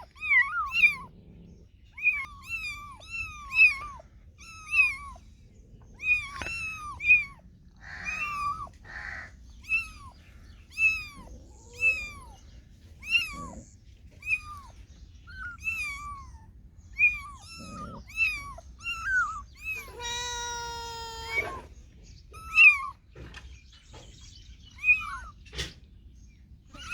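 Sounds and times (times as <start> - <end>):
cats and kittens meowing: 0.0 - 26.9.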